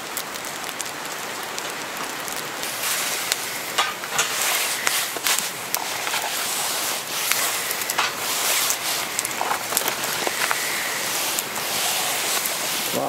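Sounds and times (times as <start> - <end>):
burning logs crackling and popping: 0.0 - 13.0
campfire hissing: 0.0 - 13.0.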